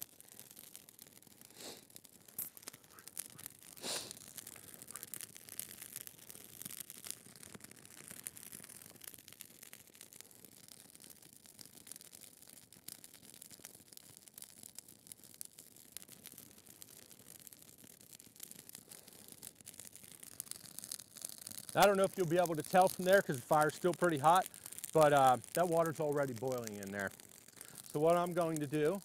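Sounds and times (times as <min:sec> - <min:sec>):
fire crackling and popping: 0:00.0 - 0:29.0
loud crack of fire: 0:00.0 - 0:29.0.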